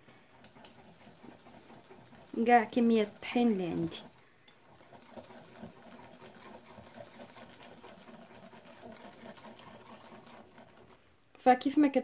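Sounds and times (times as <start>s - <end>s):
whisk scraping a ceramic bowl: 0.2s - 11.2s.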